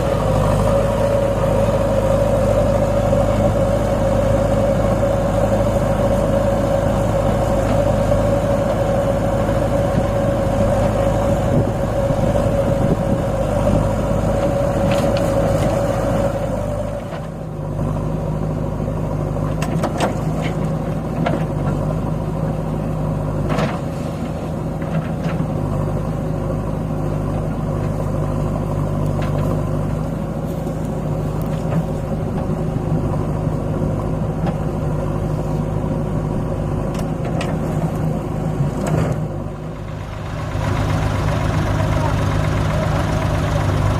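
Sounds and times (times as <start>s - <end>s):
diesel engine with high whine: 0.0s - 43.9s.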